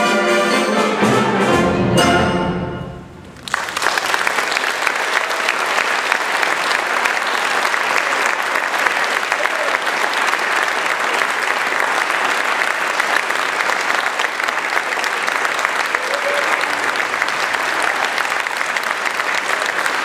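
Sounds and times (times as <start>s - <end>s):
crowd applauding: 3.3s - 20.0s.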